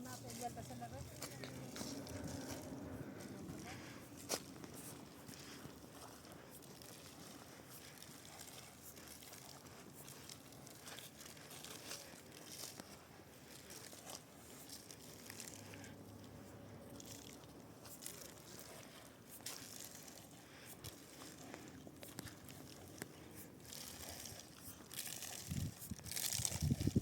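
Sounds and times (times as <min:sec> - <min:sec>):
faint rustling and crackling: 0:00.0 - 0:27.0.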